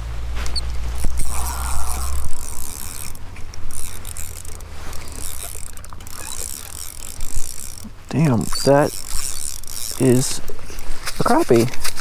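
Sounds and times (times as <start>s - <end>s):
fishing reel whirring and clicking: 0.4s - 12.0s.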